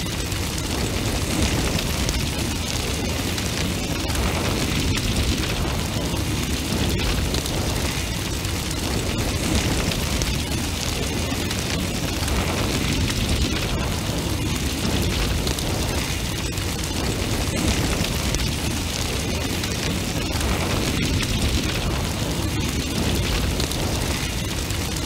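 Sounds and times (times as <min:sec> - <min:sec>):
fire crackling: 0:00.0 - 0:25.0
large fire roaring: 0:00.0 - 0:25.0.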